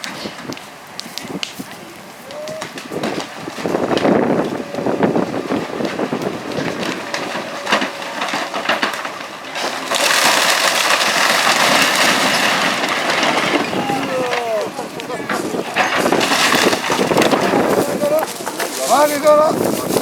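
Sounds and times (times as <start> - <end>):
wood cracking and crunching: 0.0 - 20.0.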